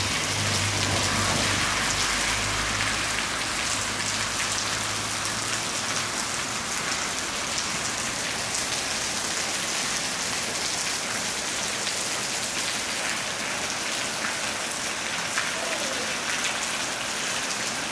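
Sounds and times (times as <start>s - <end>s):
heavy rain on street and rooftops: 0.0s - 17.9s.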